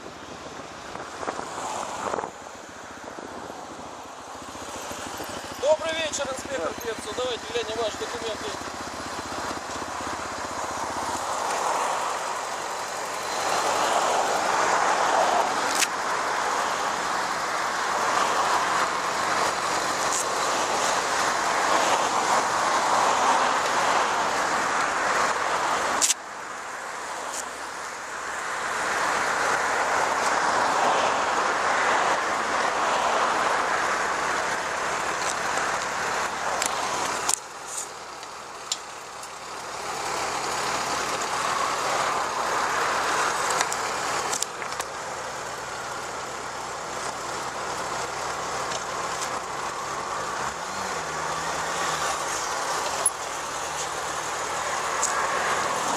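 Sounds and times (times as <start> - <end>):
road and traffic rushing noise: 0.0 - 55.9.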